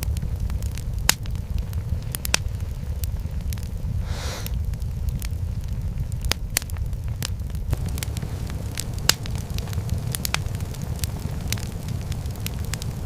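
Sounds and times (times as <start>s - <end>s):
fire crackling and popping: 0.0s - 13.0s
low rumble: 1.3s - 13.0s.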